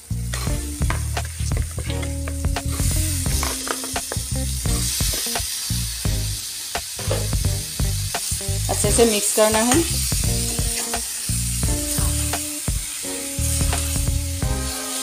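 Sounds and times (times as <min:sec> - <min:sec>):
background music low notes: 0:00.0 - 0:15.0
chicken sizzling in a pan: 0:00.0 - 0:15.0.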